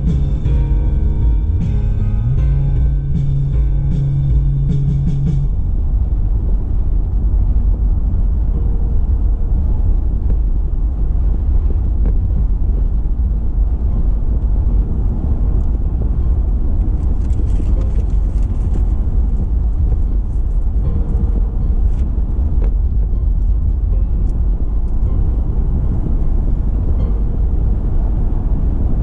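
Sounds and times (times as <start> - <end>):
car driving on road: 0.0 - 29.0.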